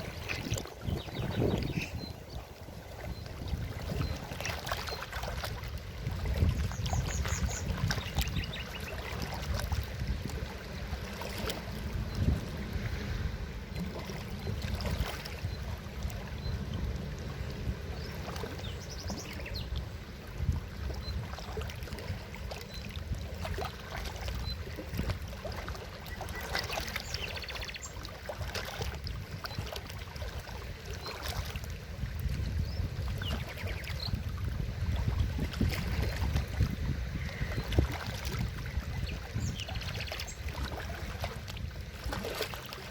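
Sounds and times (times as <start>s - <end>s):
water gurgles and splashes: 0.0s - 42.9s.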